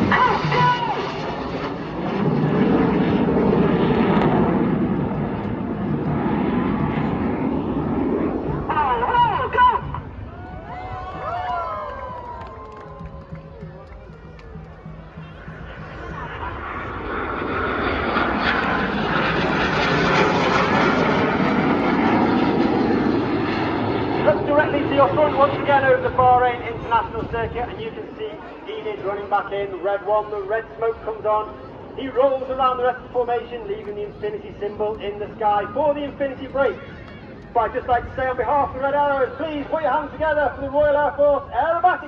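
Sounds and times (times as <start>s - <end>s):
jet aircraft roaring overhead: 0.0s - 42.0s.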